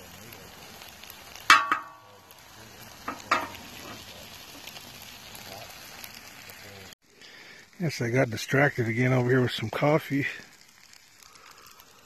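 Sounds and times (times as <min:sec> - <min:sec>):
food sizzling on hot metal: 0:00.0 - 0:12.0.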